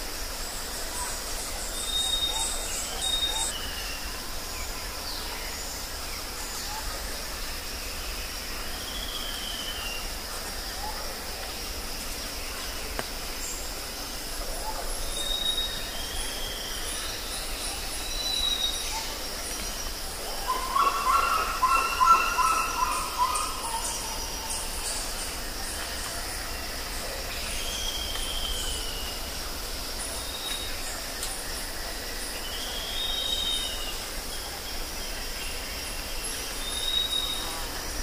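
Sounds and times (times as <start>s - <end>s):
high insect drone: 0.0s - 38.0s.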